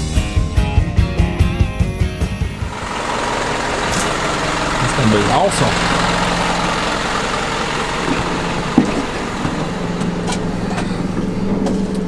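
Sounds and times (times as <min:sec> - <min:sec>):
truck engine idling: 0:02.3 - 0:12.0.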